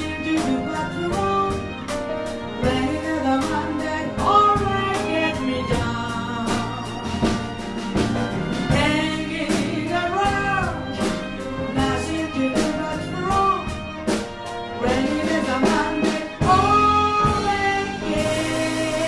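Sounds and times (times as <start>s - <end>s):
jazz band playing slow song: 0.0s - 19.0s.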